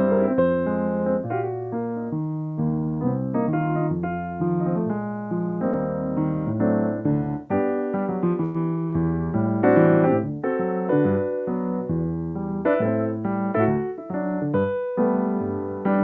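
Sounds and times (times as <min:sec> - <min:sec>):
solo piano playing: 0:00.0 - 0:16.0.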